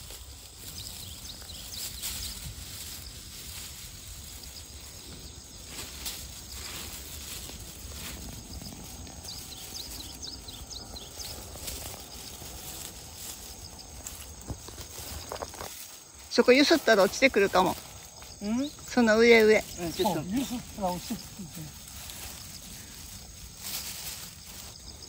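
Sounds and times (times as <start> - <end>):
footsteps rustling among burrs: 0.0 - 25.0.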